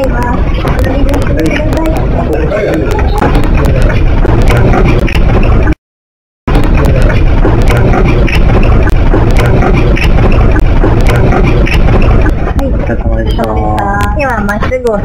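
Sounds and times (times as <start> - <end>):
distorted rumble with crackles: 0.0 - 5.8, 6.4 - 15.0.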